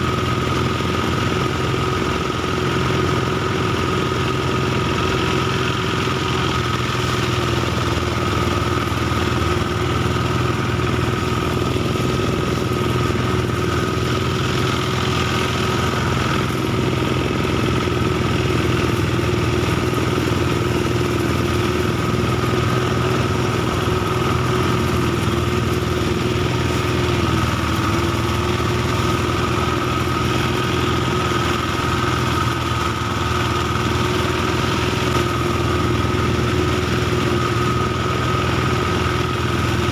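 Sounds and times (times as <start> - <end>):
thresher engine running: 0.0 - 39.9.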